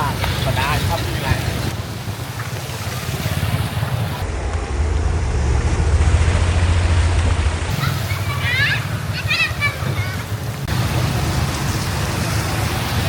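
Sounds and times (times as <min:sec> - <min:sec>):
heavy rain rushing: 0:00.0 - 0:13.0.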